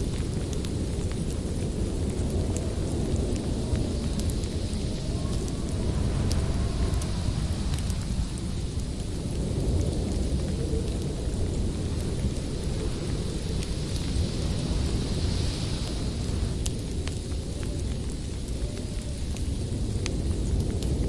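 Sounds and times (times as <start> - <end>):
howling wind: 0.0 - 21.0
wood fire crackling: 0.0 - 21.0.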